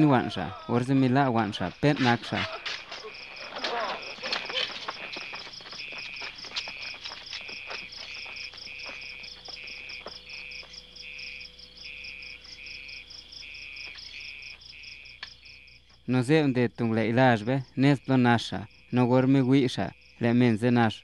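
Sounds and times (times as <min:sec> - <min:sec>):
insect low trill: 0:00.0 - 0:21.0
insects chirping: 0:00.0 - 0:21.0.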